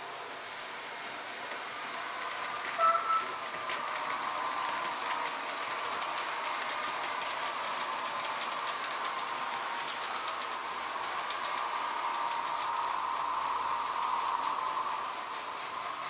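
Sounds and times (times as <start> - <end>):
wheels ticking over rails: 1.0 - 16.0.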